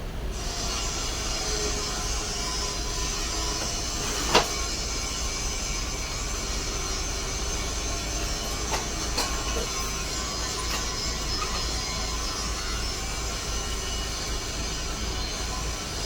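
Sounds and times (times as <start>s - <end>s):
steady mechanical noise: 0.0s - 16.0s.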